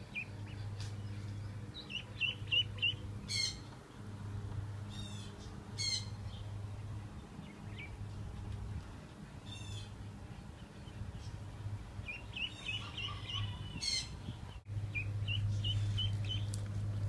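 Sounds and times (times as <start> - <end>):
ducklings peeping: 0.0 - 3.8, 4.8 - 16.7.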